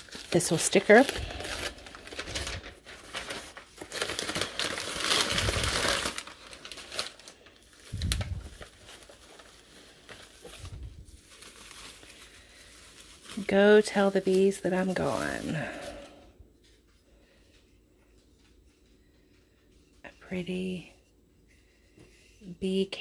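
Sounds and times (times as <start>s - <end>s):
packing paper crinkling: 0.0s - 20.3s.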